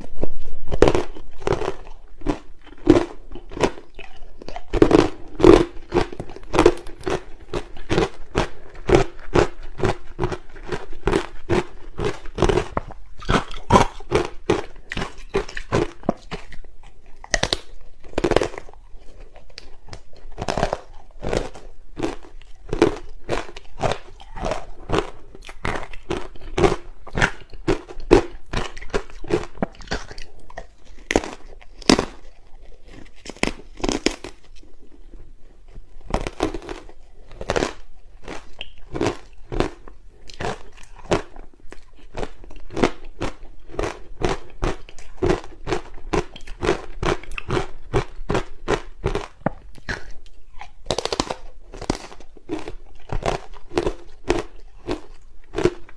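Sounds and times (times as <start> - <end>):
crunching ice while chewing: 0.0 - 55.9.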